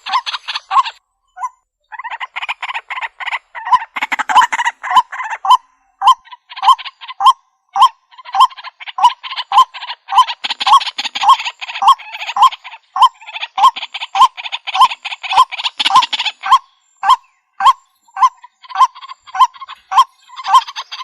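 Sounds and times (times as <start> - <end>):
waterhen harsh rattling calls: 0.0 - 1.0, 1.9 - 21.0.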